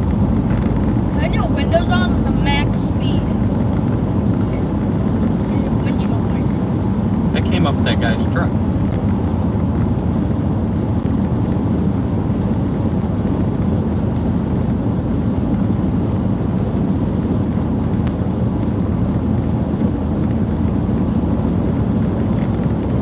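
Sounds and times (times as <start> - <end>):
road noise inside van: 0.0 - 23.0.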